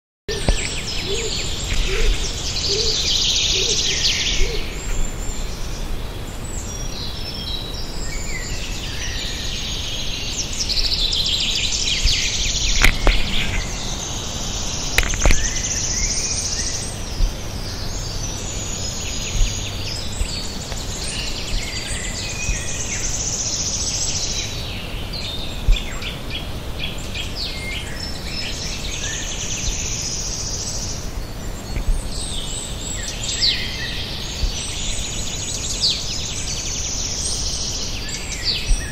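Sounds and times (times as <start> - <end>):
songbirds singing: 0.3 - 38.9.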